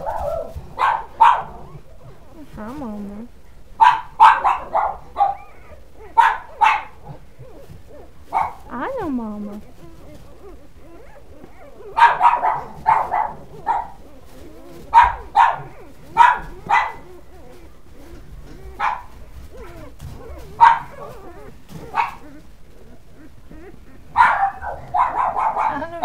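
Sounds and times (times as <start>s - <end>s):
dog whining yelps: 0.0s - 2.5s, 3.8s - 8.7s, 9.6s - 26.0s.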